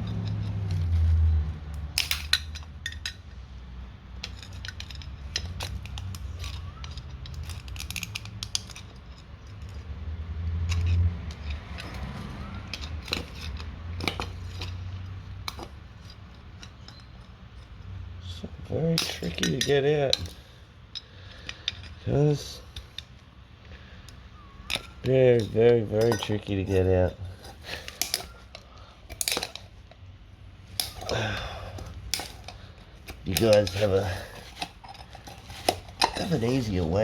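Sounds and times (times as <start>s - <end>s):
metal tools clinking and scraping: 0.0s - 3.4s, 4.1s - 37.0s.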